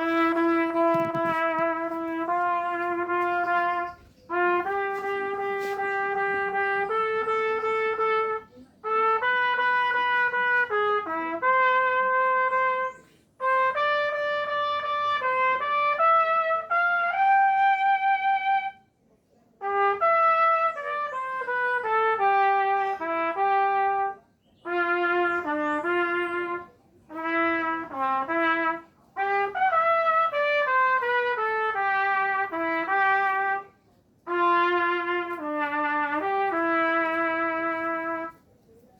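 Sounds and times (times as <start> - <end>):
solo wind instrument melody: 0.0 - 18.8, 19.6 - 38.4.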